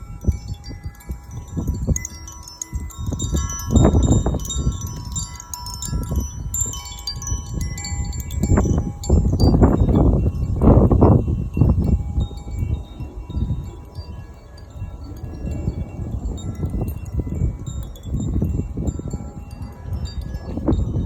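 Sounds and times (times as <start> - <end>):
wind chime ringing: 0.0 - 21.0.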